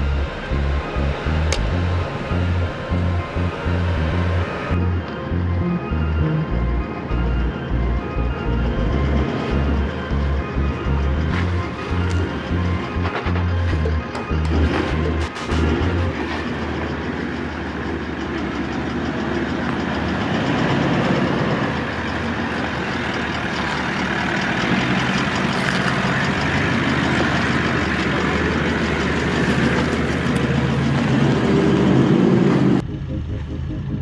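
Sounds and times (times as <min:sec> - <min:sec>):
continuous noisy rumble: 0:00.0 - 0:34.0
vehicle engine running: 0:00.0 - 0:34.0.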